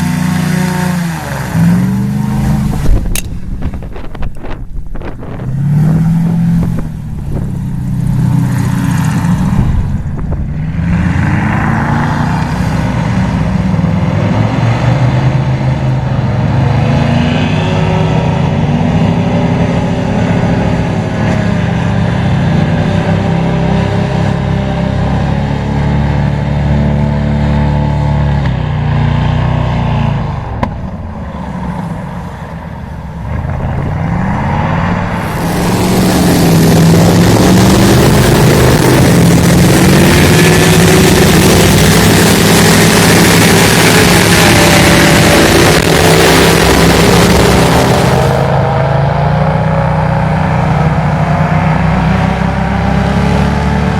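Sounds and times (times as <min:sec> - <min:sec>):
airboat engine running hard: 0:00.0 - 0:53.9.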